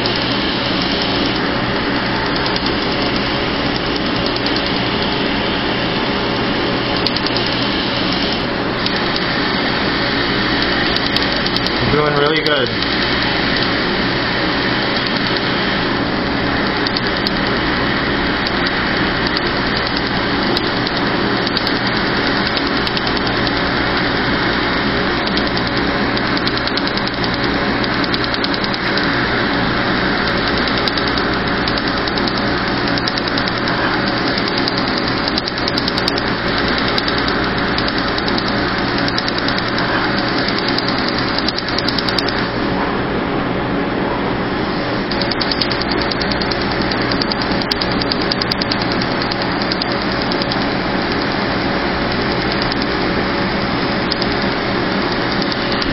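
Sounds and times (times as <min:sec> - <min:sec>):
rapid faint laser ticking: 0:00.0 - 0:01.5, 0:02.2 - 0:05.2, 0:06.9 - 0:09.3, 0:10.6 - 0:13.9, 0:14.9 - 0:15.5, 0:16.2 - 0:24.1, 0:25.0 - 0:29.1, 0:30.2 - 0:42.4, 0:45.1 - 0:53.1, 0:53.9 - 0:55.9
cold air blower rushing: 0:00.0 - 0:55.9
laser unit hum: 0:00.0 - 0:55.9.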